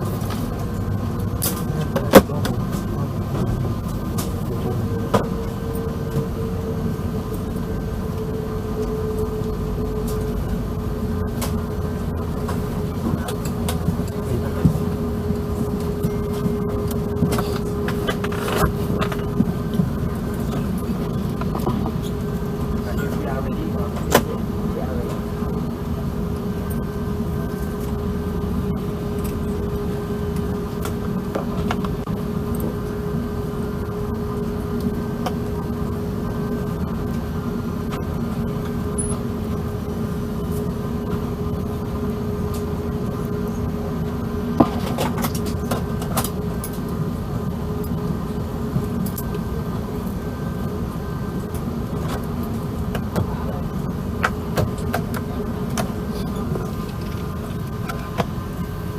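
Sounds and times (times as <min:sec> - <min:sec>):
airplane cabin drone: 0:00.0 - 0:58.9.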